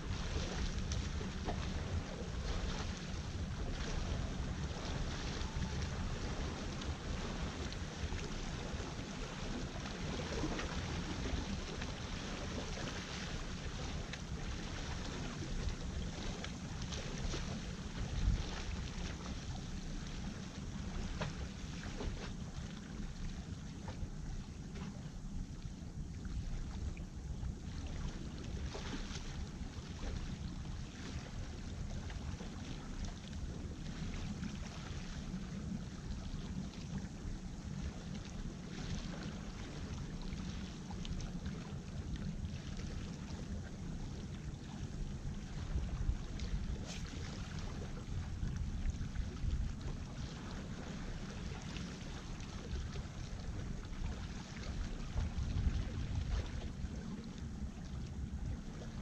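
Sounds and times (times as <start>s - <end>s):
wind buffeting microphone: 0.0s - 36.0s, 43.1s - 59.0s.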